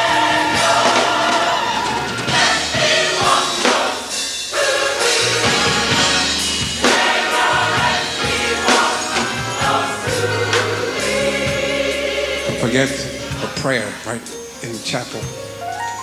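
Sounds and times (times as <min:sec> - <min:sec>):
choir singing a hymn: 0:00.0 - 0:14.5.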